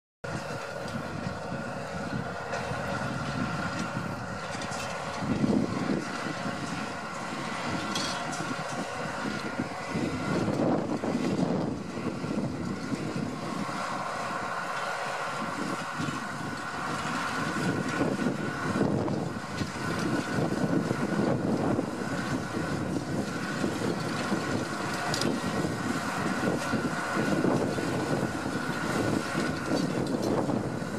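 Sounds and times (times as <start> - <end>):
tractor diesel engine running: 0.2 - 30.9.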